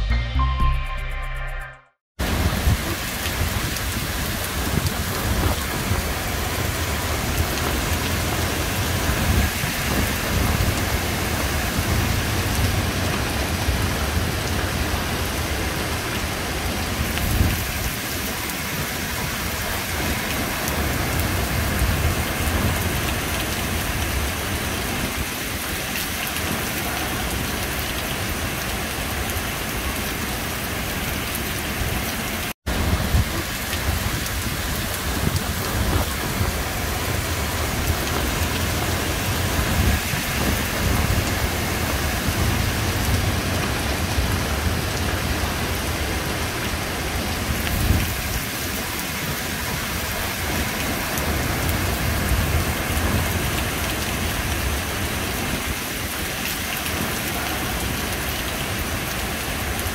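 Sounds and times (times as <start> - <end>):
heavy rain on water: 2.2 - 59.9.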